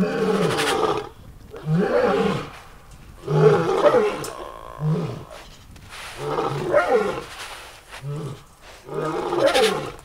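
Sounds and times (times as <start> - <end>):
big cat roaring: 0.0 - 2.6, 3.2 - 5.5, 6.2 - 7.3, 8.0 - 10.0.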